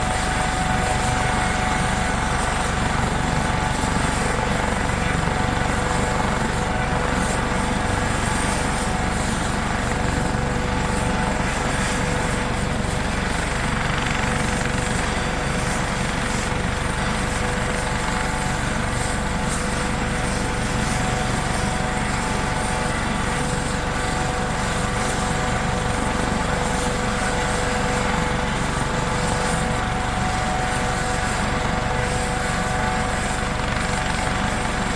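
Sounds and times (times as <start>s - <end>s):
helicopter rumble: 0.0s - 34.9s
steady whining tones: 0.0s - 34.9s.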